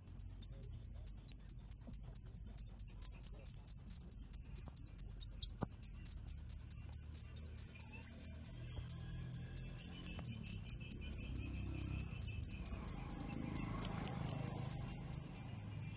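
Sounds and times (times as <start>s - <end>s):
cricket chirping: 0.0s - 15.9s.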